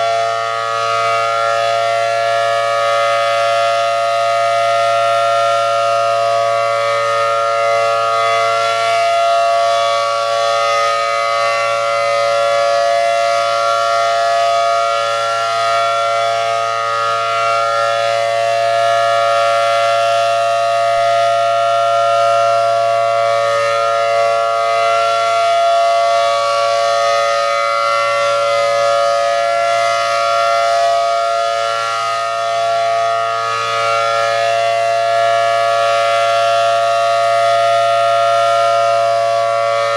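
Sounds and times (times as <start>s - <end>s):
warning siren two-tone chord: 0.0s - 39.9s.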